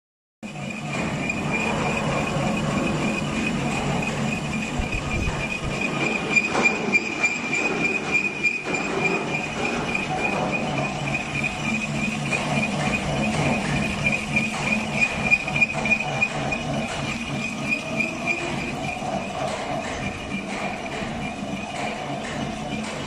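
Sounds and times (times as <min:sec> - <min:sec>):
boring machine whine: 0:00.4 - 0:23.0
machine clatter: 0:00.4 - 0:23.0.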